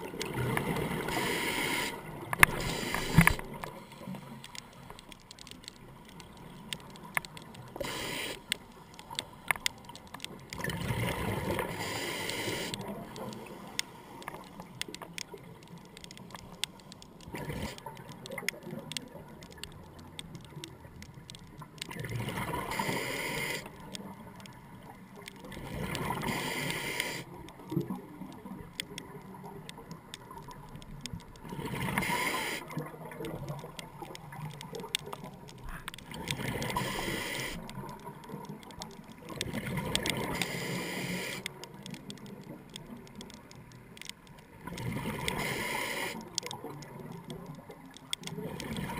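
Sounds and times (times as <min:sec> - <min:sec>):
faint sharp ticking: 0:00.0 - 0:48.9.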